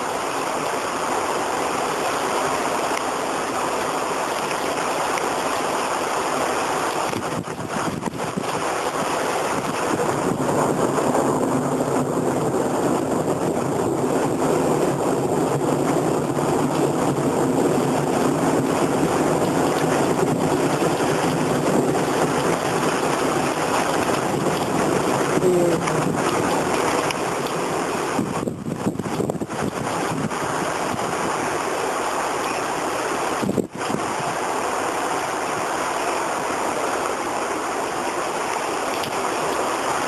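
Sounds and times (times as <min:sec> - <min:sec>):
strong wind gusting: 0:00.0 - 0:40.0.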